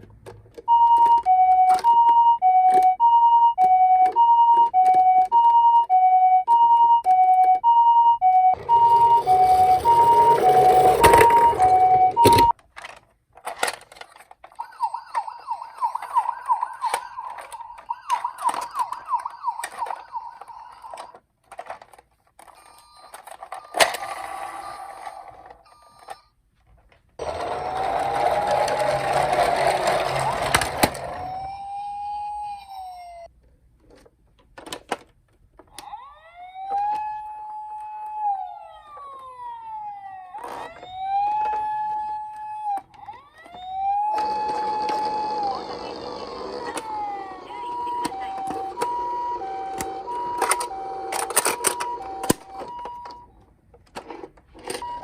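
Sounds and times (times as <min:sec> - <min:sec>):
toy electronic sirens: 0:00.7 - 0:12.6, 0:13.9 - 0:21.2, 0:22.4 - 0:26.3, 0:27.2 - 0:33.3, 0:35.7 - 0:53.4, 0:54.6 - 0:55.0.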